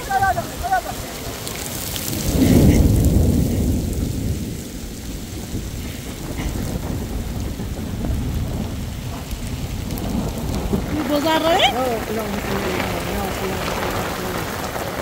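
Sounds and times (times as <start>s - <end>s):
heavy rain pouring: 0.0s - 15.0s
deep rumble: 0.4s - 15.0s.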